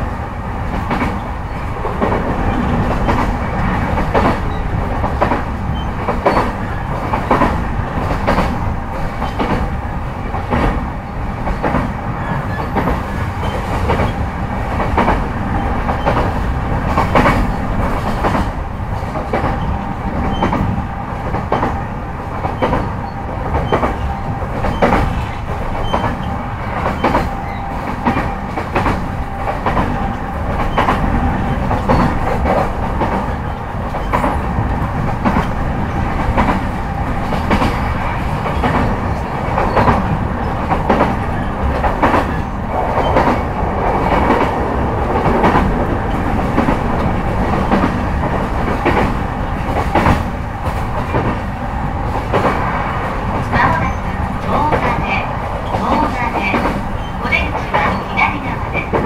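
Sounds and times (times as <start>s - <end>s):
electric train rumble and hum: 0.0s - 59.0s.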